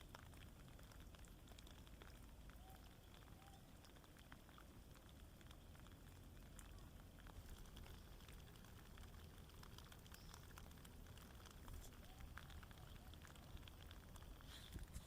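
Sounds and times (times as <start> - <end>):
light ticks and patter: 0.0 - 15.0
low steady rumble: 0.0 - 15.0.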